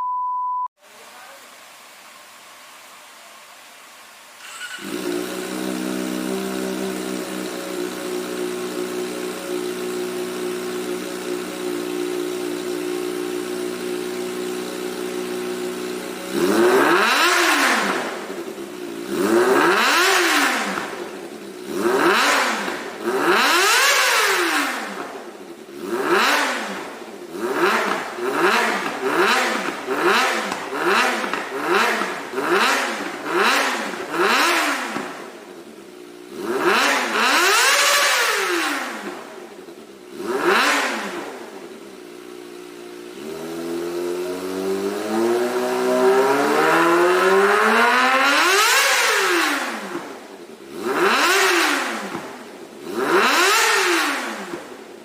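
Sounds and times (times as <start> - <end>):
motorcycle engine revving: 4.4 - 55.0.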